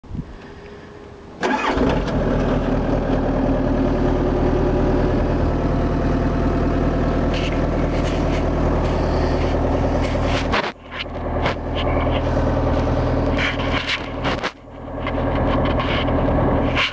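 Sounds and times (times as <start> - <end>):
diesel engine starting: 0.4 - 16.9.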